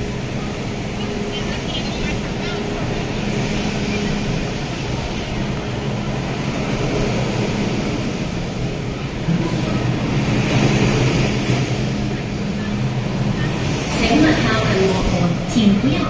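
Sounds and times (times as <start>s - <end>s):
low motor hum: 0.0s - 16.0s
metro train running noise: 0.0s - 16.0s.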